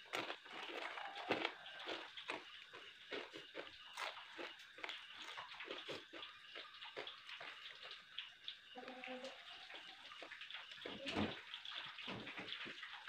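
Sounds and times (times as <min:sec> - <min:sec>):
chewing: 0:00.0 - 0:12.8.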